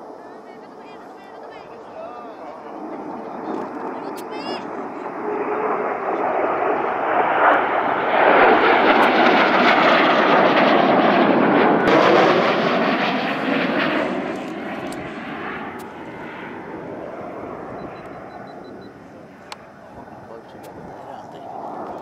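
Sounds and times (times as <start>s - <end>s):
jet aircraft roaring overhead: 0.0s - 22.0s.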